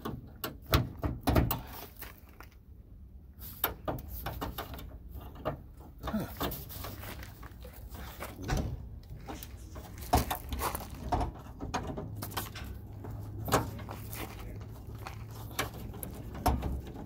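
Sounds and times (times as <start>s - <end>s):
metal grille rattling and clunking: 0.0s - 2.4s, 3.4s - 17.0s.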